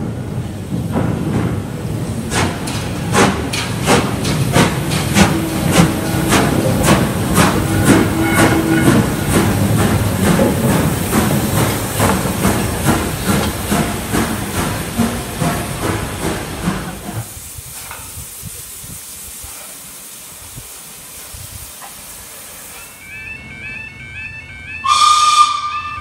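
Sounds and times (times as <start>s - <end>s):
steam train exhaust beats: 0.0s - 26.0s
steam hissing: 0.3s - 23.4s.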